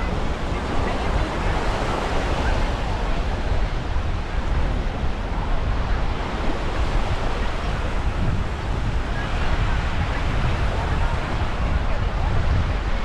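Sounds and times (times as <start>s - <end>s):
small waves washing on shore: 0.0s - 13.0s
wind buffeting microphone: 0.0s - 13.0s.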